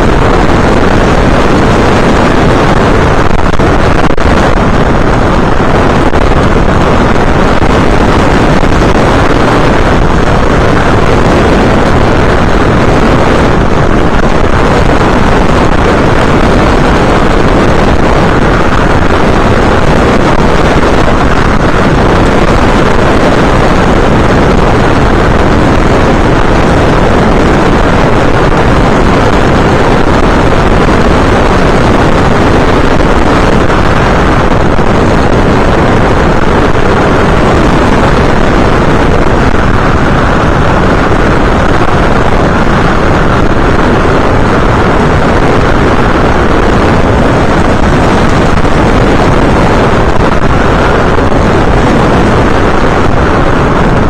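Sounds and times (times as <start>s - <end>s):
aircraft motor noise: 0.0s - 54.0s
wind rushing: 0.0s - 54.0s.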